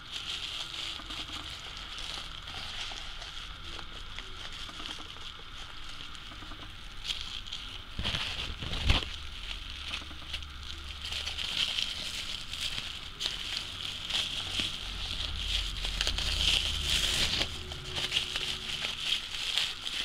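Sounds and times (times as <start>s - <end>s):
bubble wrap crinkling: 0.0s - 20.0s.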